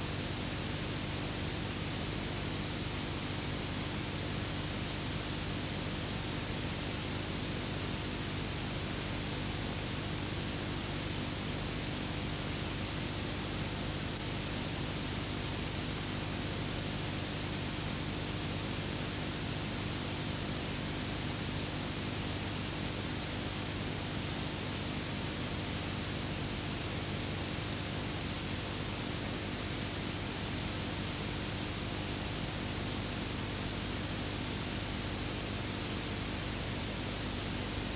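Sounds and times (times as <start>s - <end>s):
film hiss and static: 0.0s - 37.9s.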